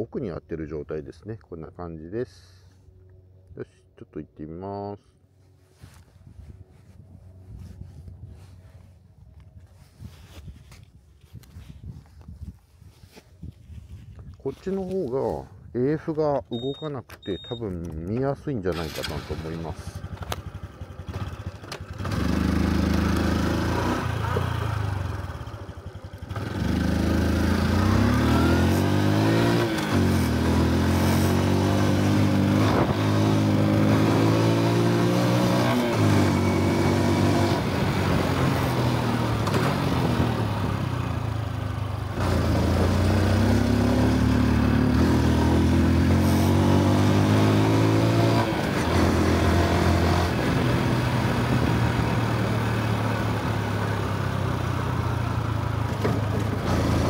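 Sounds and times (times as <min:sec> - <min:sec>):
motorcycle engine accelerating: 0:05.6 - 0:15.0, 0:18.8 - 0:57.0.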